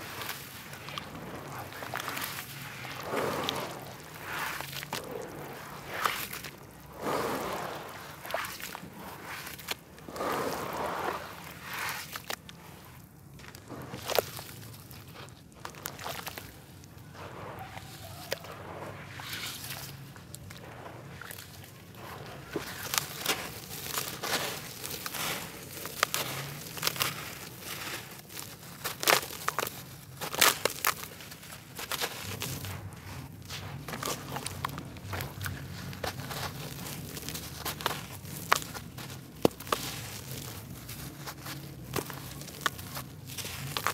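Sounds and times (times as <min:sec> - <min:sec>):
hands squelching wet mud: 0:00.0 - 0:43.9
water drips and splashes: 0:00.1 - 0:43.9.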